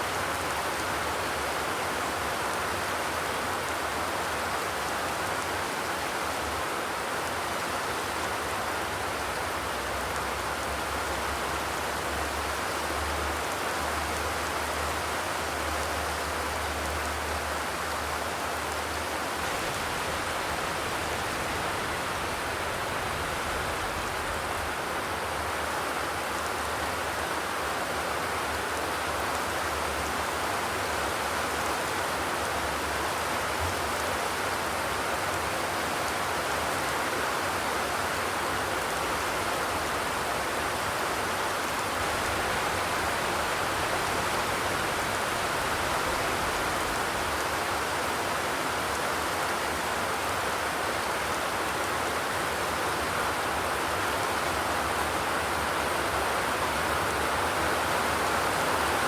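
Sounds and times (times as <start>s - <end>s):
rain on a corrugated metal roof: 0.0s - 59.0s.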